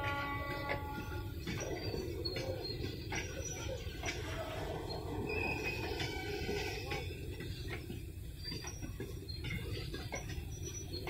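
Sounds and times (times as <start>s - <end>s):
train rumbling slowly: 0.0s - 11.0s.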